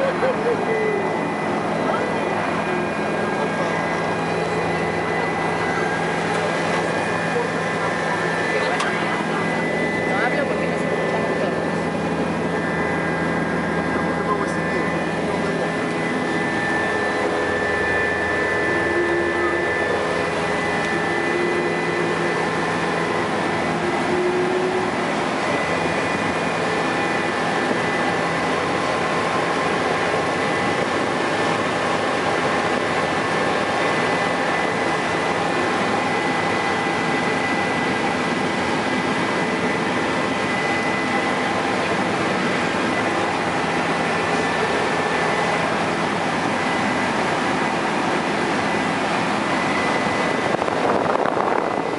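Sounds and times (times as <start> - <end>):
helicopter engine and rotor drone: 0.0 - 51.9
high whine: 0.0 - 51.9.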